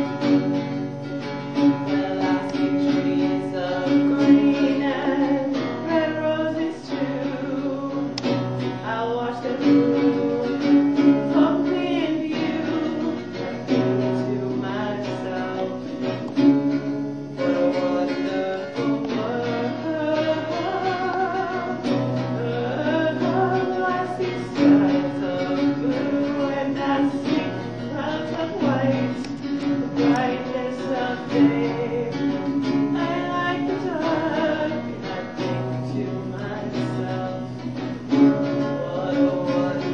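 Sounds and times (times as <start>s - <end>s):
person singing: 0.0s - 39.9s
strummed acoustic guitar: 0.0s - 39.9s.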